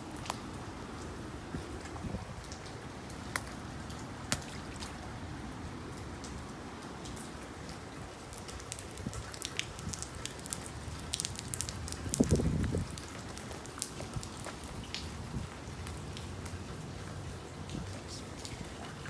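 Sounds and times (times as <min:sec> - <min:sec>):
rain falling: 0:00.0 - 0:19.0
sharp raindrop ticks: 0:00.1 - 0:19.0.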